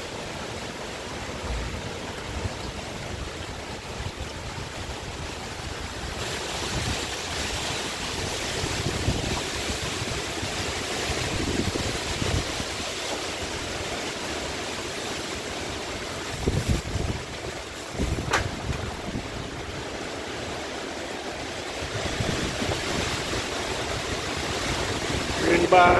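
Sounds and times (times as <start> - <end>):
wind buffeting microphone: 0.0 - 13.8, 15.9 - 20.5, 21.5 - 25.9
steady rain: 0.0 - 25.9
wind rushing through trees: 0.0 - 25.9.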